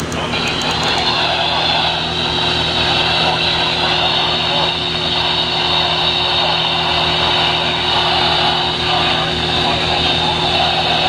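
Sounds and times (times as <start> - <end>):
low hum: 0.0 - 11.0
radio static hiss: 0.0 - 11.0.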